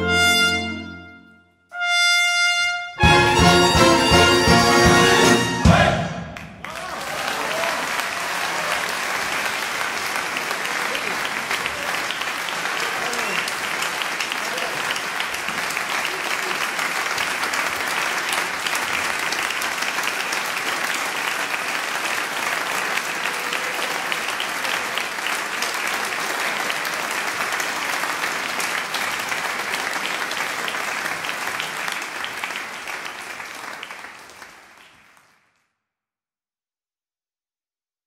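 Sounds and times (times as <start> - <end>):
audience applauding: 3.0 - 35.7.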